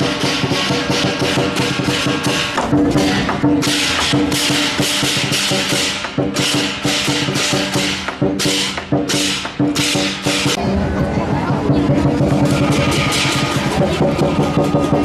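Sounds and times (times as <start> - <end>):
hand cymbals clashing: 0.0 - 10.6, 12.2 - 15.0
large drum beating: 0.0 - 15.0.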